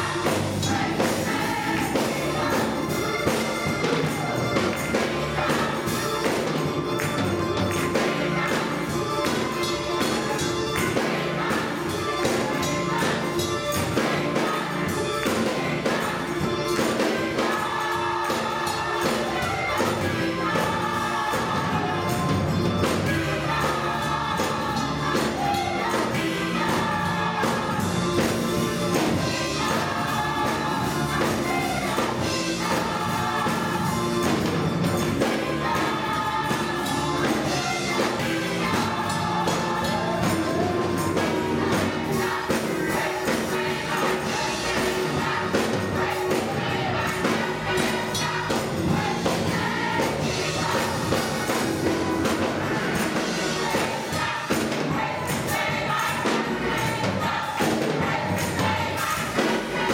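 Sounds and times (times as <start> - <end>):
gospel choir singing: 0.0 - 59.9
keyboard accompaniment: 0.0 - 59.9
steady percussive beat: 0.0 - 59.9.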